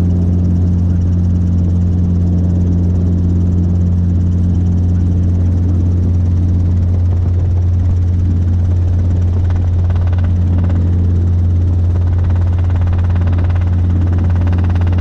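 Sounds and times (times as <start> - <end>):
helicopter engine and rotors droning: 0.0 - 15.0.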